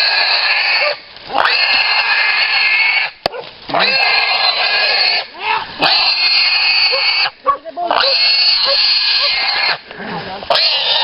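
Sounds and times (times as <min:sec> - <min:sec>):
hog squealing: 0:00.0 - 0:03.1, 0:03.7 - 0:09.8, 0:10.5 - 0:11.0.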